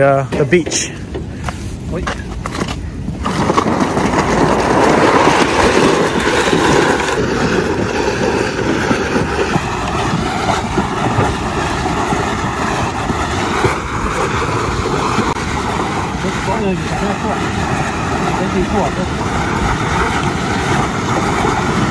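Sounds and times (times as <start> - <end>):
wheels rumbling on wooden boards: 0.0 - 21.9.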